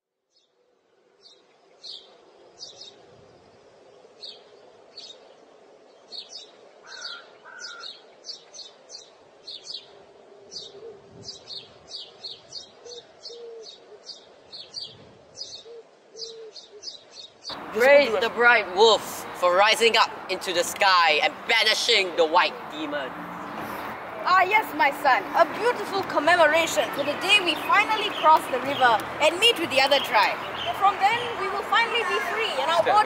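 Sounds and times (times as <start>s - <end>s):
birds chirping: 0.3s - 33.0s.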